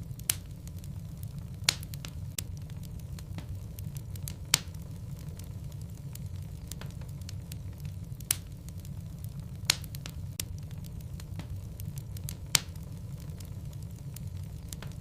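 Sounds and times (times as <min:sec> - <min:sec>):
fire crackling and popping: 0:00.0 - 0:15.0
fire rumbling in a fireplace: 0:00.0 - 0:15.0.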